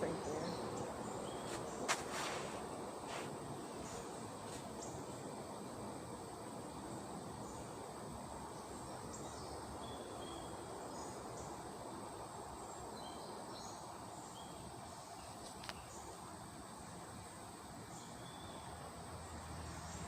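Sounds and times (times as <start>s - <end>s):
faint background hiss: 0.0s - 20.0s.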